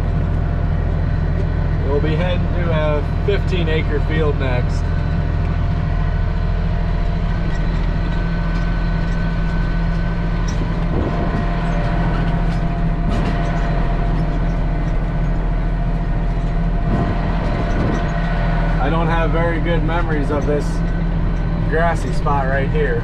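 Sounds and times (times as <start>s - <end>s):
tractor engine droning: 0.0s - 23.0s.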